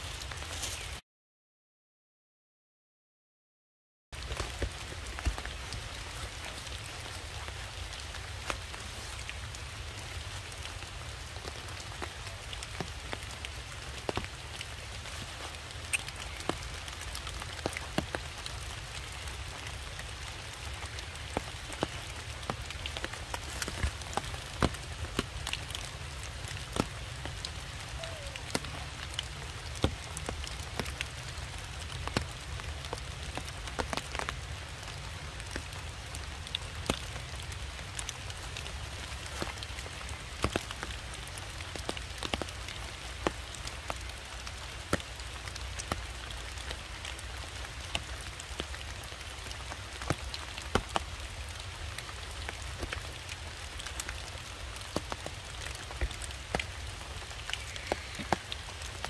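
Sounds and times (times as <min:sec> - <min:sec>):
light rain falling and dripping: 0:00.0 - 0:01.0, 0:04.2 - 0:59.0.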